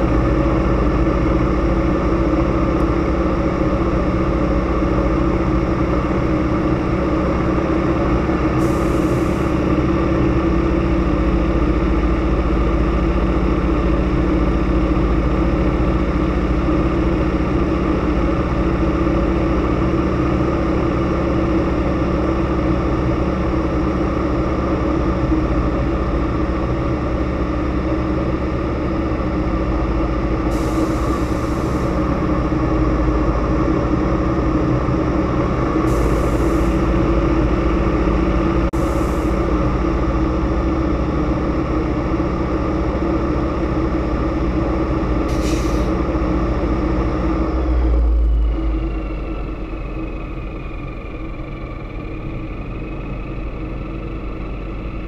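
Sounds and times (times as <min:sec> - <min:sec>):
aircraft radial engine and propeller: 0:00.0 - 0:55.0.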